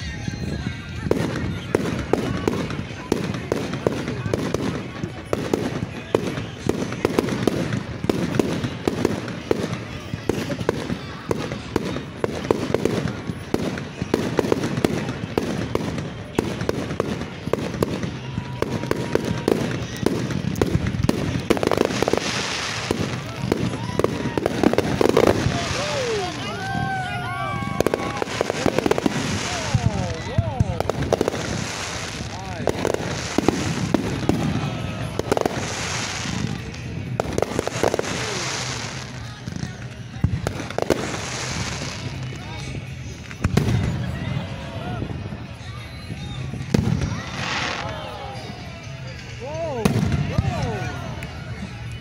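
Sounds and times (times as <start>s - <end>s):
fireworks bangs and pops: 0.0s - 52.0s.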